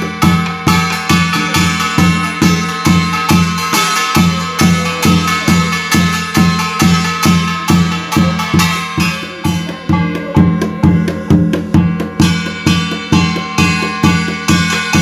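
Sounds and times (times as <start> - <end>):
barrel drum beaten with stick: 0.0 - 15.0
sustained ringing tones: 0.0 - 15.0.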